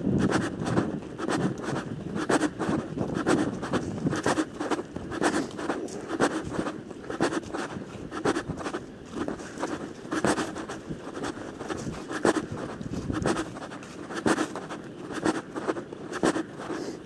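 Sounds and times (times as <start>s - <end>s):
footsteps on trail: 0.0s - 17.0s.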